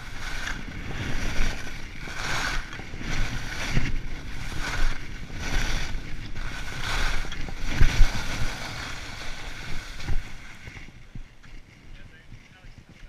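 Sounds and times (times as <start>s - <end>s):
skis scraping on snow: 0.0s - 13.0s
wind rumble on microphone: 0.0s - 13.0s.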